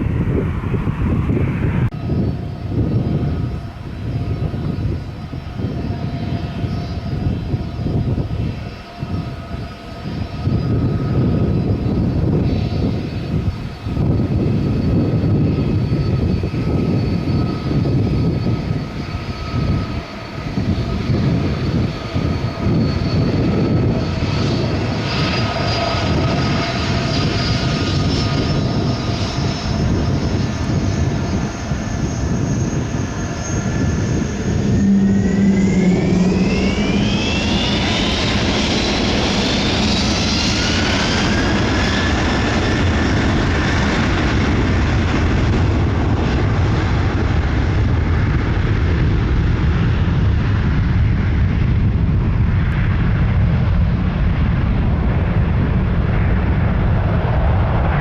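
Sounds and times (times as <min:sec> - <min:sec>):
jet engine high whine: 0:00.0 - 0:58.0
jet engine rumble: 0:00.0 - 0:58.0.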